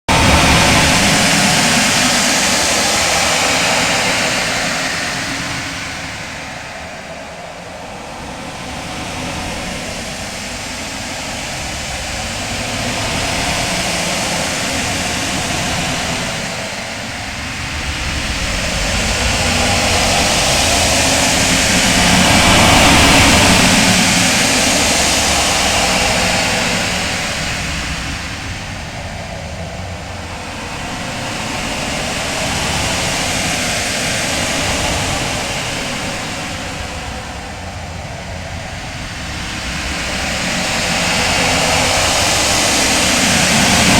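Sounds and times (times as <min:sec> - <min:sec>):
dense rushing rumble: 0:00.0 - 0:43.9.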